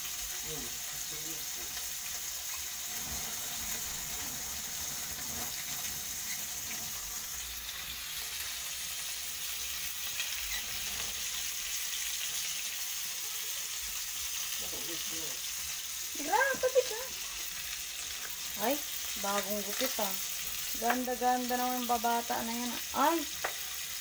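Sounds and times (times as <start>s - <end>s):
oil sizzling in a frying pan: 0.0s - 24.0s.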